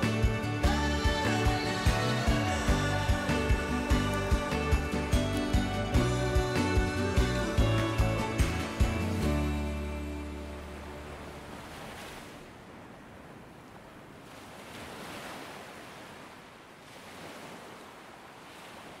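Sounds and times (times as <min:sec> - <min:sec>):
ocean surf washing in: 0:00.0 - 0:19.0.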